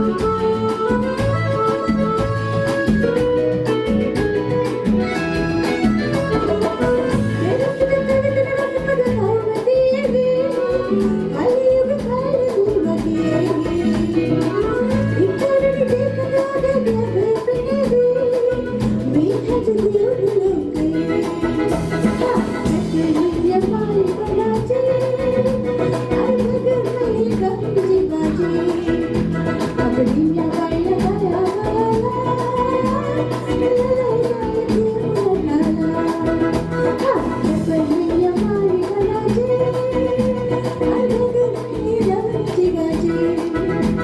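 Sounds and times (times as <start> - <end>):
bass: 0.0 - 44.0
drums: 0.0 - 44.0
keyboards: 0.0 - 44.0
woman singing into microphone: 0.0 - 44.0.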